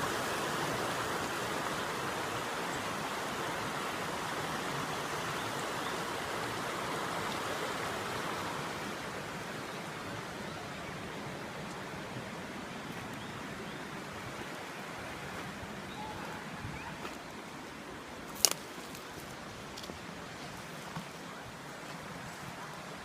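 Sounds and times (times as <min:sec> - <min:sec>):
river water running: 0:00.0 - 0:23.0.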